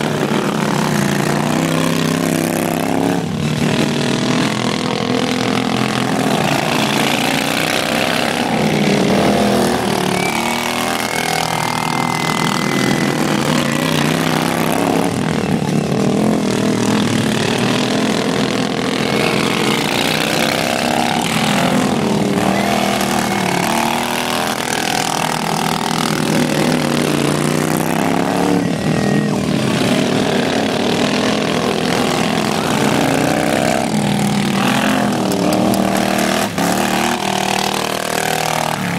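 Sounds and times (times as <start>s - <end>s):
racing lawn mower engines: 0.0s - 38.9s.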